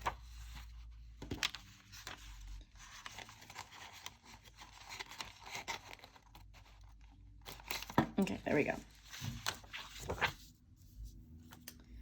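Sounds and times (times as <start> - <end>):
paper rustling and crinkling: 0.0 - 10.5.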